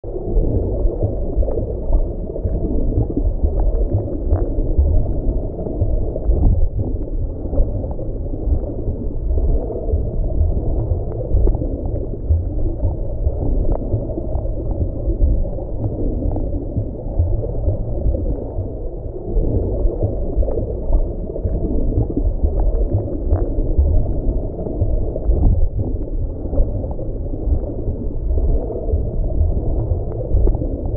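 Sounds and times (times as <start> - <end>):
underwater low rumble: 0.0 - 30.9
water gurgling: 0.0 - 30.9.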